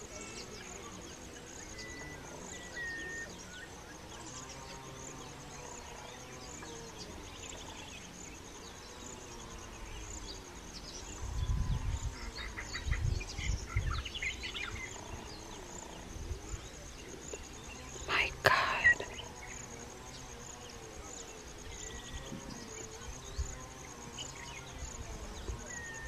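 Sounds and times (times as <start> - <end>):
high-pitched insect trill: 0.0 - 26.0.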